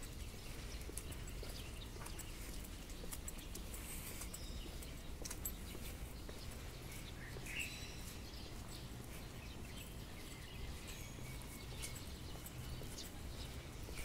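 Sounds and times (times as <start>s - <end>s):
bird chirping: 0.0s - 14.0s
footsteps on pavement: 0.0s - 14.0s.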